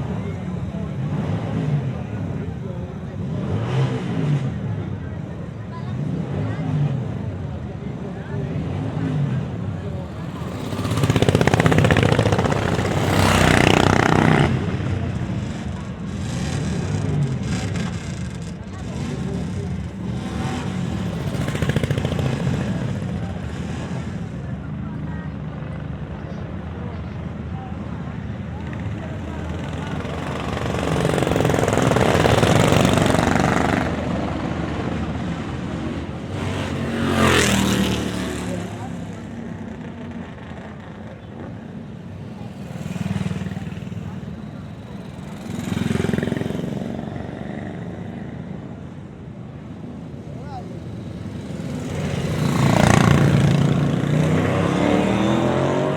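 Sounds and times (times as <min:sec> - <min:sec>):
motorcycle engines passing: 0:00.0 - 0:55.9.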